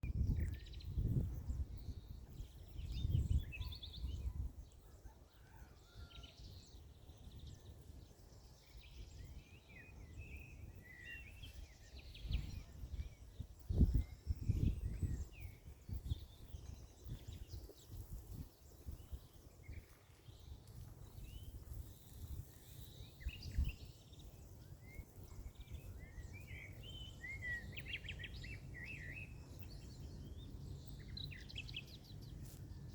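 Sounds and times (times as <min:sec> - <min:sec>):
small birds chirping: 0:00.0 - 0:05.7, 0:06.7 - 0:32.9.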